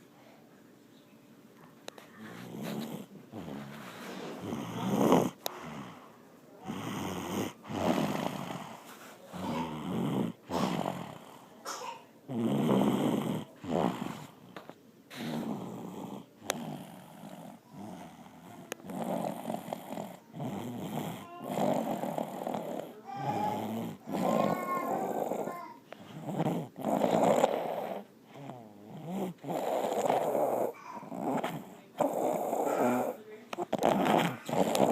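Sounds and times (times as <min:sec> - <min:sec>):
loud snoring: 0:02.2 - 0:11.5, 0:12.3 - 0:34.9.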